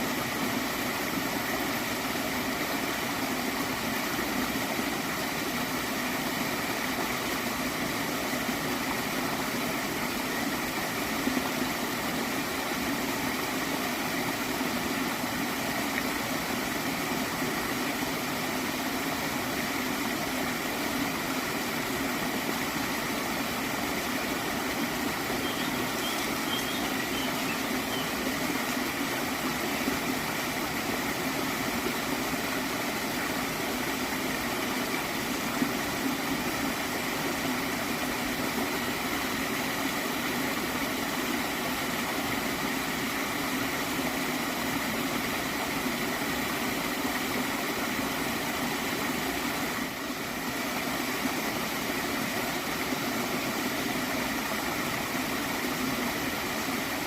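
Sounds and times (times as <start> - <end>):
stream of water gurgling: 0.0 - 57.0.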